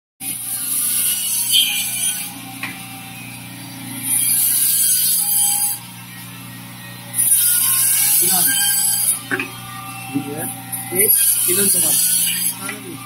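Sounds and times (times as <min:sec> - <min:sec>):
fish-scaling machine motor hum: 0:00.2 - 0:13.0
harsh high-pitched rasping: 0:00.2 - 0:13.0.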